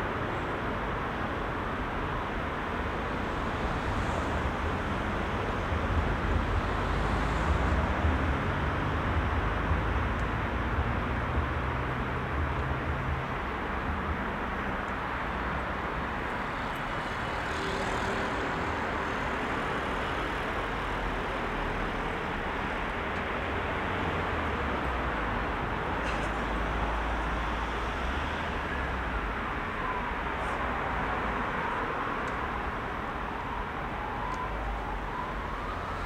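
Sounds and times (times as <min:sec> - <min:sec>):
engines and tyre noise: 0:00.0 - 0:36.0.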